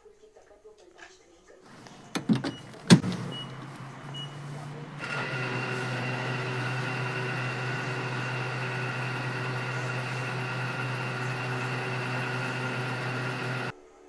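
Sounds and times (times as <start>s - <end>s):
small electric motor humming: 1.7s - 13.7s.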